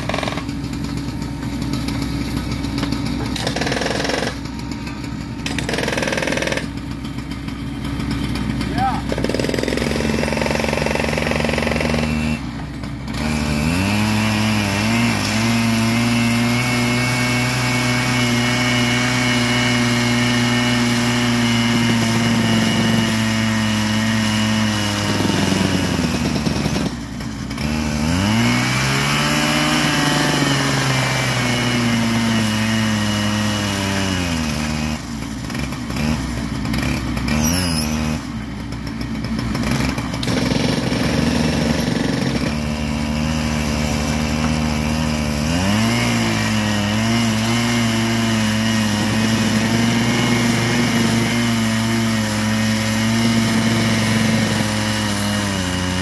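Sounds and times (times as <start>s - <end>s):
rail saw engine revving: 0.0s - 56.0s.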